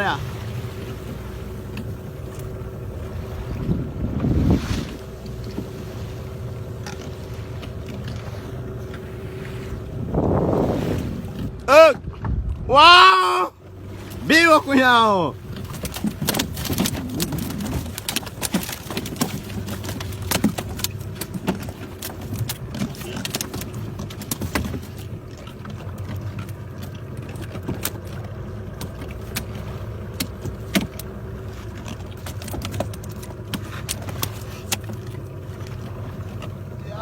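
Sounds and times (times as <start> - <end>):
boat motor running: 0.0 - 37.0.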